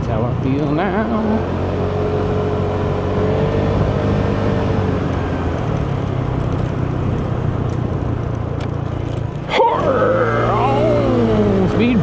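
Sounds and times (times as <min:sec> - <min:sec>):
road noise: 0:00.0 - 0:12.0
scooter engine cruising: 0:00.2 - 0:12.0.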